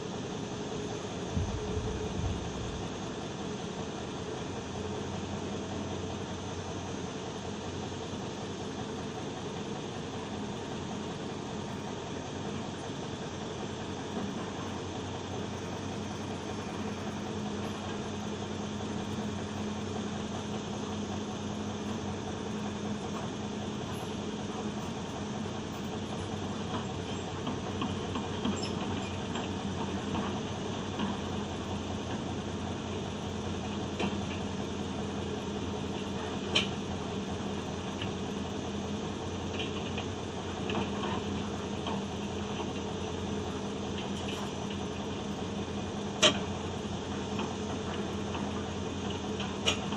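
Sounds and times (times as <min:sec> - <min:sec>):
heavy engine humming: 0:00.0 - 0:49.9.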